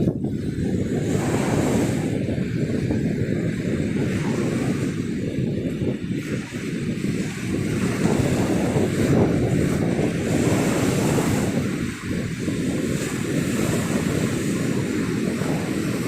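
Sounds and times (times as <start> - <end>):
sea waves washing on beach: 0.0 - 16.0
wind buffeting microphone: 0.0 - 16.0.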